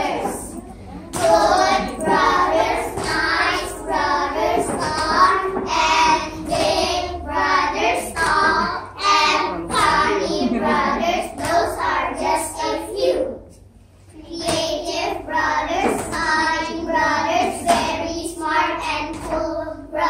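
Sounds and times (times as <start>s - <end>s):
young children singing: 0.0s - 13.6s, 14.2s - 20.0s.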